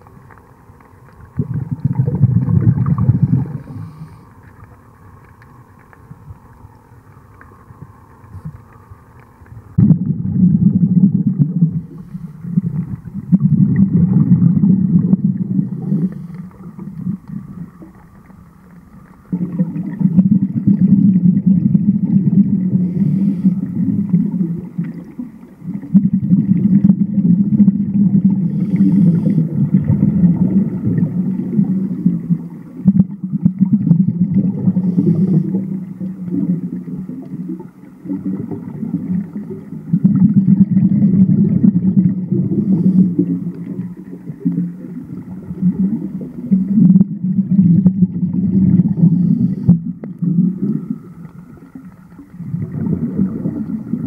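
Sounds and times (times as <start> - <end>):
scuba regulator bubbles gurgling: 0.0 - 54.0.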